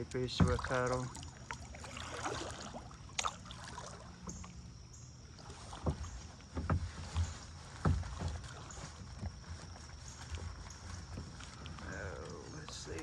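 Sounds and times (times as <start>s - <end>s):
knocks and splashes: 0.0s - 13.0s
paddle strokes in water: 0.0s - 13.0s.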